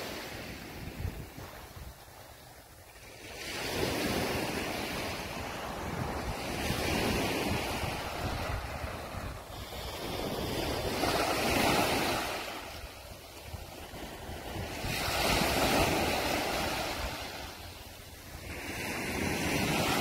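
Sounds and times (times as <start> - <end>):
small waves breaking on shore: 0.0 - 20.0
wind rumbling on microphone: 0.0 - 20.0.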